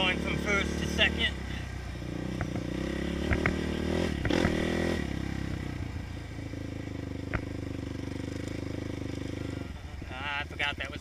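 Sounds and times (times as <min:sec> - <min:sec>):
quad engine revving: 0:00.0 - 0:10.2.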